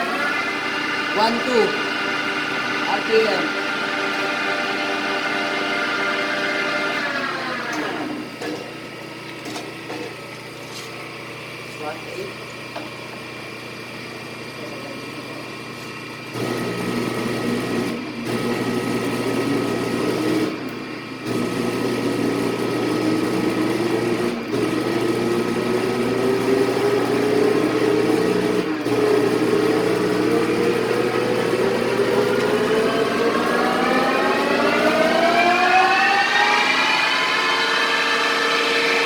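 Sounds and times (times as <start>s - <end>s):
lathe whine rising in pitch: 0.0s - 9.2s, 16.4s - 39.0s.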